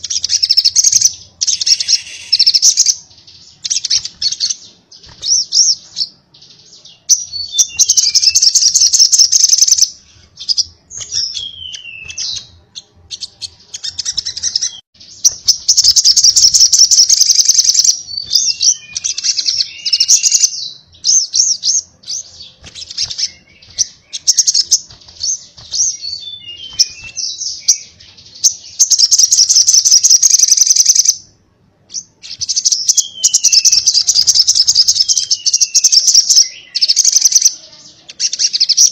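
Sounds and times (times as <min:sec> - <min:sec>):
bird singing fast high trills: 0:00.0 - 0:06.2, 0:06.8 - 0:31.3, 0:31.9 - 0:38.9
bird chirps and descending notes: 0:00.0 - 0:31.1, 0:32.3 - 0:37.5.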